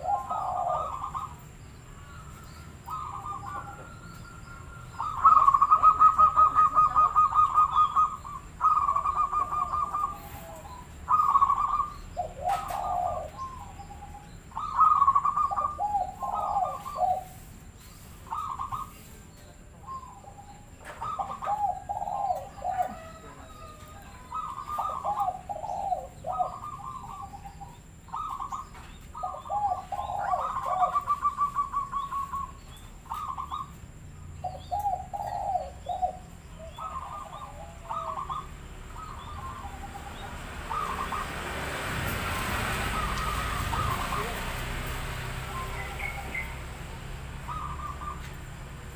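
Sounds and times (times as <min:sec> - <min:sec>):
dove cooing: 0:00.0 - 0:48.9.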